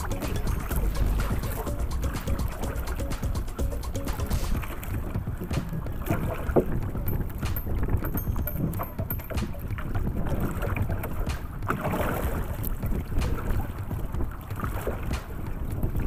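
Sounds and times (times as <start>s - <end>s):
water splashing against boat hull: 0.0s - 16.0s
wind noise on microphone: 0.0s - 16.0s.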